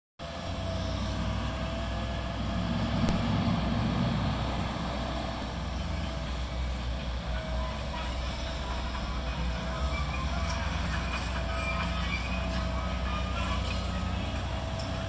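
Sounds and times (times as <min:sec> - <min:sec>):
construction machinery engines rumbling: 0:00.2 - 0:15.0.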